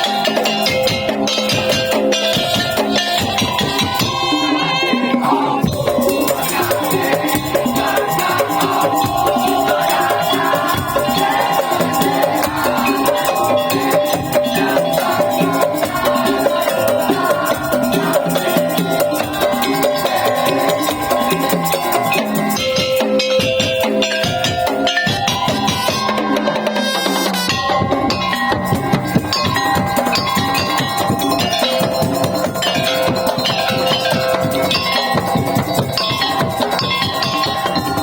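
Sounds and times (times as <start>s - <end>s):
slit drums and hand drums: 0.0s - 38.0s.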